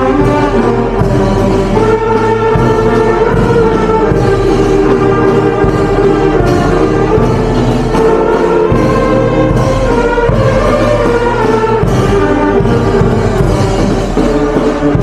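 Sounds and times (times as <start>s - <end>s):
orchestral music: 0.0s - 15.0s.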